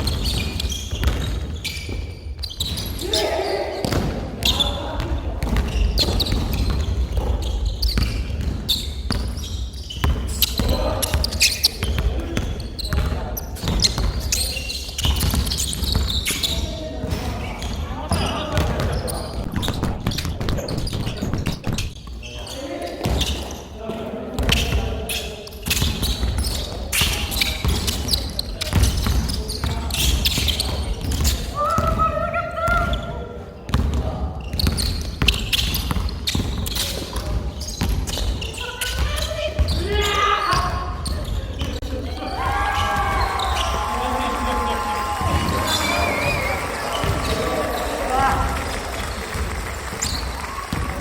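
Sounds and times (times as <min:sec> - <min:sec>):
basketball bouncing on court: 0:00.0 - 0:03.2, 0:03.8 - 0:22.0, 0:25.6 - 0:51.0
shoe squeaks: 0:00.0 - 0:23.8, 0:24.4 - 0:43.8, 0:45.6 - 0:48.1, 0:49.6 - 0:51.0.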